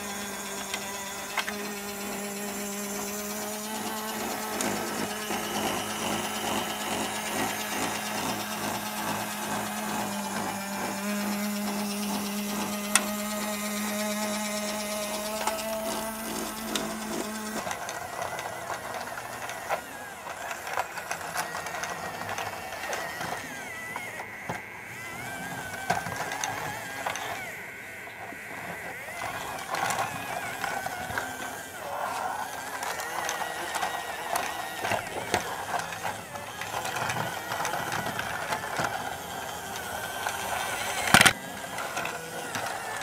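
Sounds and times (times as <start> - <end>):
toy mechanism clicking and rattling: 0.0 - 43.0
toy train motor whirring: 0.0 - 43.0.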